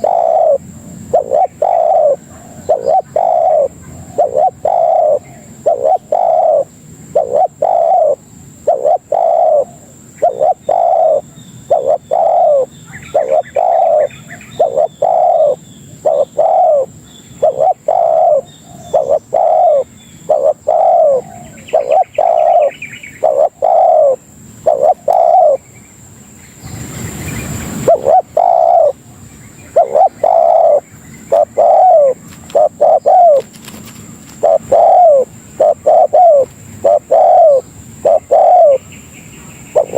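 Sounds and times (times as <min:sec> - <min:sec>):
dove cooing: 0:00.0 - 0:25.6, 0:27.4 - 0:39.9
small bird chirping faintly: 0:00.0 - 0:39.9.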